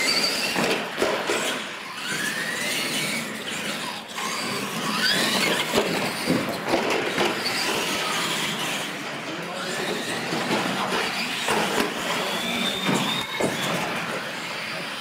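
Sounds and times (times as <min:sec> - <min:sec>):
tire squeal: 0:00.0 - 0:15.0
toy truck motors whining: 0:00.0 - 0:15.0.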